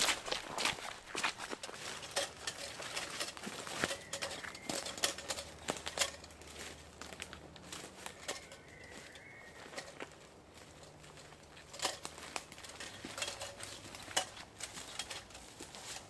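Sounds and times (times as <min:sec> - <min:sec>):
footsteps on leaf litter: 0:00.0 - 0:16.0.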